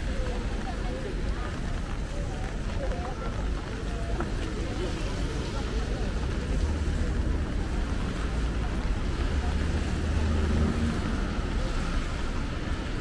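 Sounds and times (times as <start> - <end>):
city street hiss: 0.0 - 13.0.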